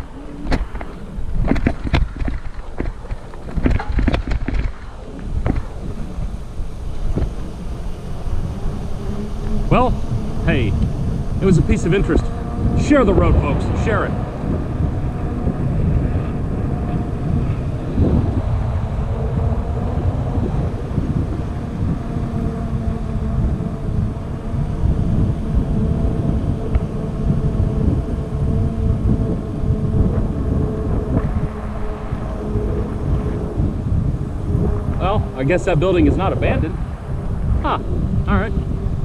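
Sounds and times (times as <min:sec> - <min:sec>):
steady hum: 0:00.0 - 0:39.0
wind buffeting microphone: 0:00.0 - 0:39.0.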